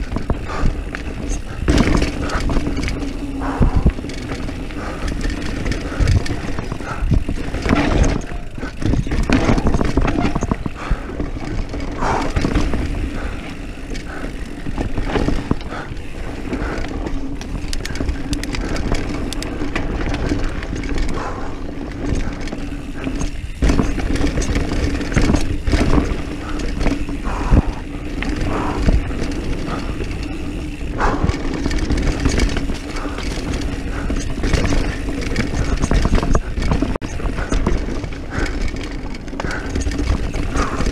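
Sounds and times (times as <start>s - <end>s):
bike rattling over bumps: 0.0s - 40.9s
steady low hum: 0.0s - 40.9s
tyres rolling over dirt: 0.0s - 40.9s.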